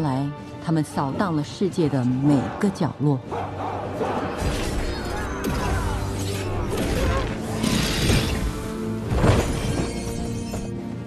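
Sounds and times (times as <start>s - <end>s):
film score music: 0.0s - 11.0s.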